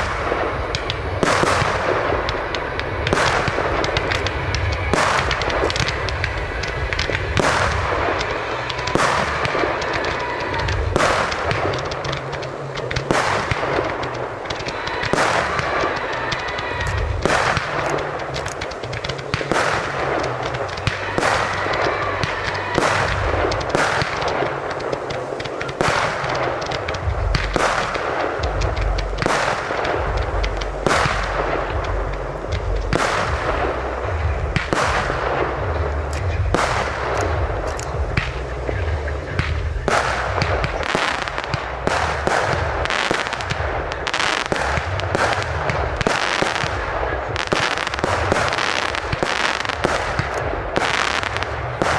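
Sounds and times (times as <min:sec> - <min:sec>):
continuous dense din: 0:00.0 - 0:51.9
fireworks bangs: 0:00.0 - 0:51.9.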